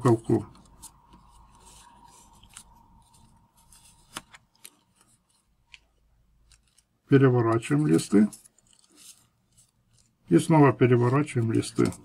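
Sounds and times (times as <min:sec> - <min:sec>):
paper clicks: 0:00.0 - 0:10.3, 0:11.1 - 0:12.0
paper rustling and crinkling: 0:00.0 - 0:12.0.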